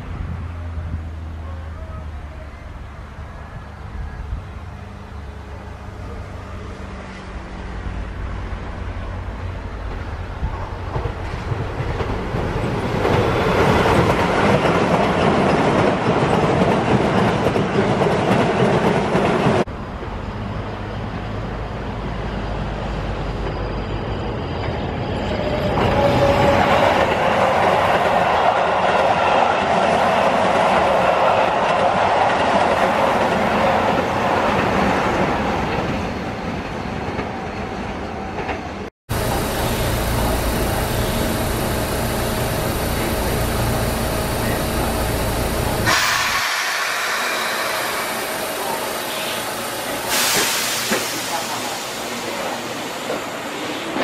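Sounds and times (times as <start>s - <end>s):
train whine: 0.0s - 54.0s.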